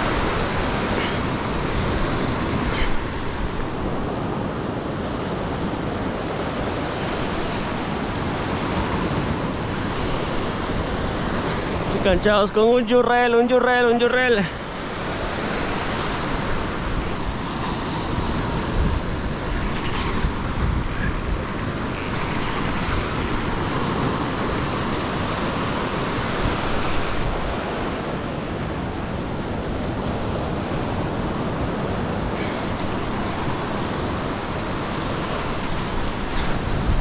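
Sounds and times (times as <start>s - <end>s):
wind rumbling on microphone: 0.0s - 12.4s, 14.6s - 37.0s
small waves breaking: 0.0s - 37.0s.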